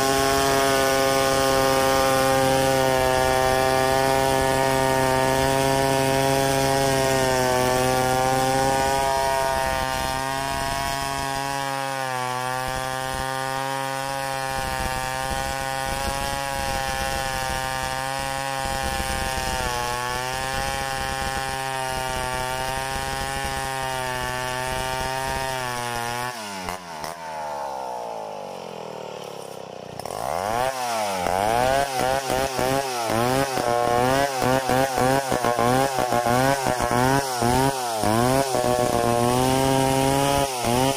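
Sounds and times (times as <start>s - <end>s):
chainsaw cutting through log: 0.0s - 40.9s.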